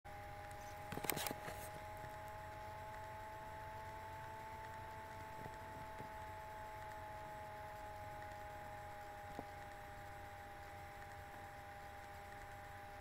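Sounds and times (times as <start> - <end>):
faint two-tone electrical whine: 0.1 - 13.0
faint ticks: 0.4 - 13.0.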